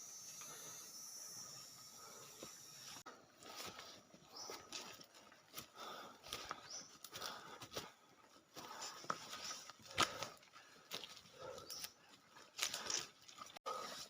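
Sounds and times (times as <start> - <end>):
rustling on forest floor: 2.0 - 14.0
footsteps on forest floor: 2.4 - 14.0.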